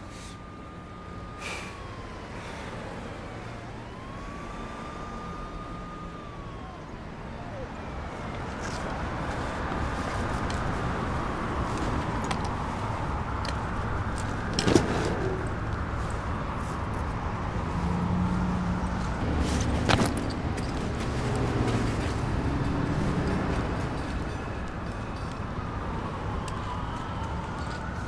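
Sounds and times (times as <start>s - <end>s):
city street traffic: 0.0s - 28.0s.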